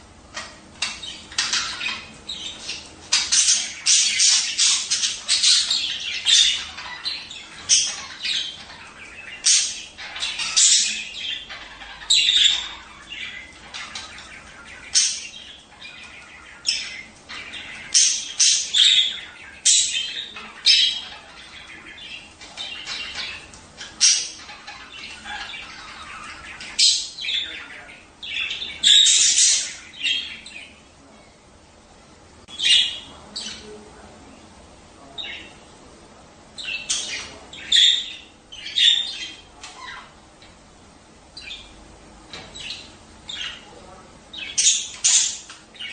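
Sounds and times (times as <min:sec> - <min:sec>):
budgerigars chirping and squawking: 0:00.2 - 0:31.4, 0:32.4 - 0:35.9, 0:36.5 - 0:45.9.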